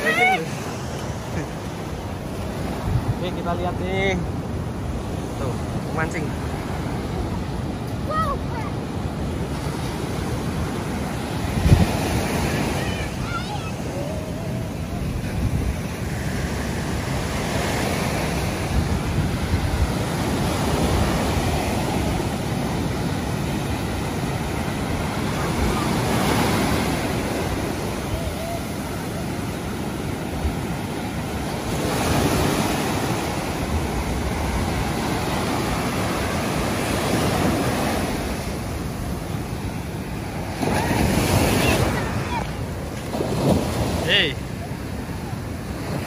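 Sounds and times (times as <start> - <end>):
wind rumbling on microphone: 0.0 - 5.1, 6.2 - 43.9
ocean surf breaking on beach: 0.0 - 46.0.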